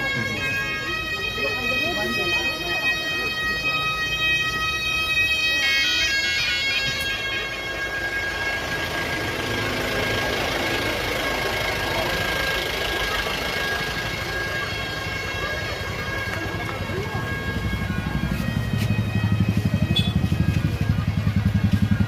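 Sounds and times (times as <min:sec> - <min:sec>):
reed wind instrument playing: 0:00.0 - 0:22.0.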